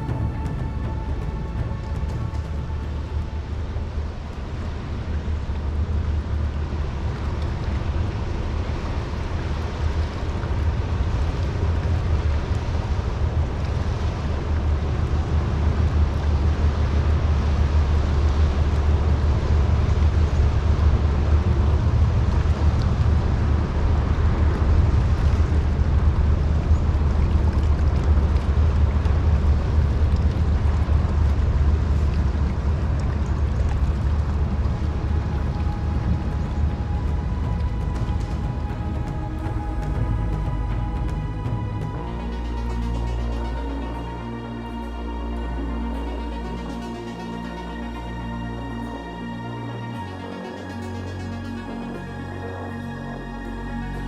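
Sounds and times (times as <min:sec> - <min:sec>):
wind noise on microphone: 0:00.0 - 0:47.9
ship engine rumble: 0:00.0 - 0:54.0.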